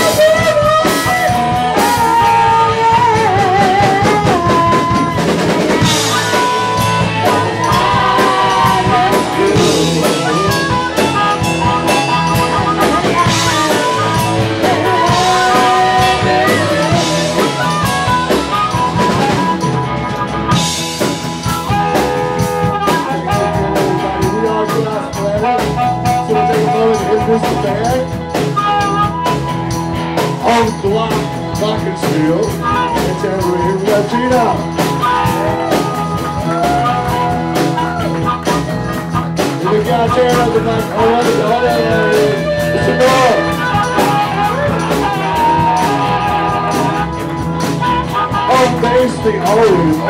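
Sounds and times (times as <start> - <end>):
blues-rock band playing: 0.0 - 50.0
drum kit beat: 0.0 - 50.0
harmonica lead lines: 0.0 - 50.0.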